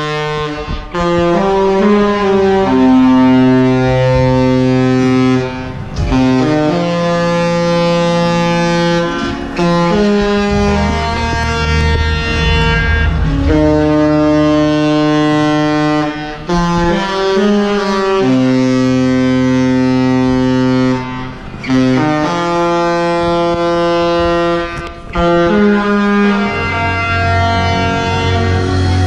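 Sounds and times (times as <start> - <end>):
ship horn playing chords: 0.0 - 29.0.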